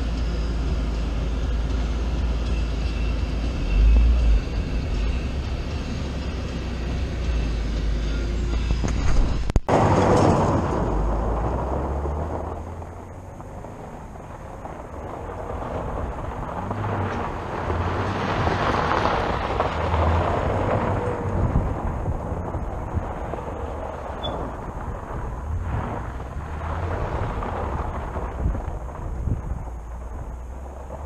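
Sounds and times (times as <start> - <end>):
tyres churning gravel: 0.0 - 31.0.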